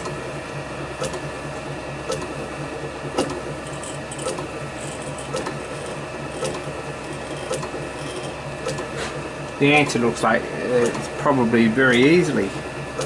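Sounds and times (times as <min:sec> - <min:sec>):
lathe motor hum: 0:00.0 - 0:13.0.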